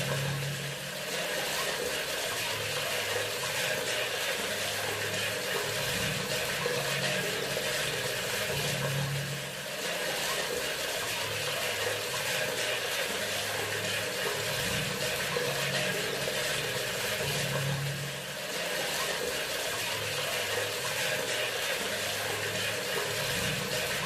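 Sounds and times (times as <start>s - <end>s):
faucet running water: 0.0s - 24.0s.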